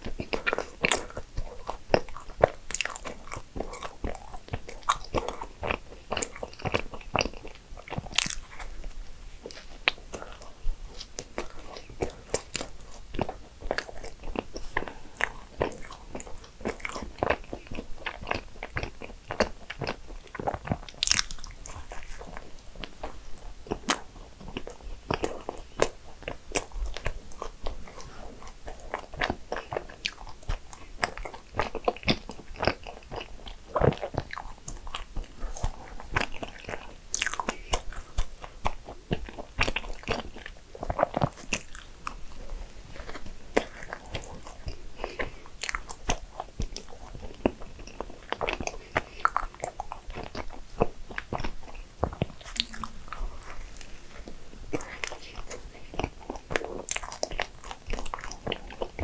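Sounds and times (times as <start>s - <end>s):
biting and chewing soft buns: 0.0s - 59.0s.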